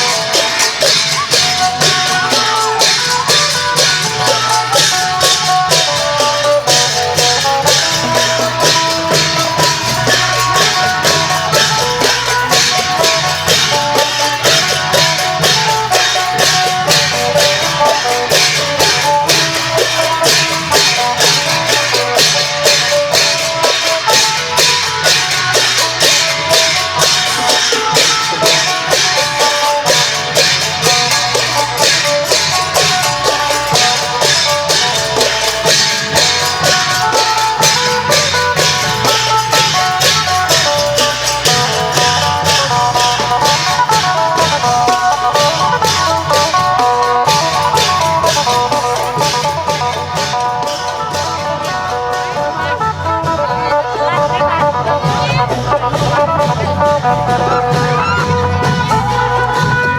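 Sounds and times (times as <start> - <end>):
long drums beating: 0.0 - 59.9.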